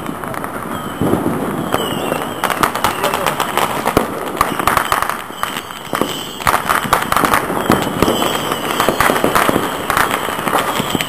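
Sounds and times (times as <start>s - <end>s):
distant fireworks crackling: 0.0s - 11.0s.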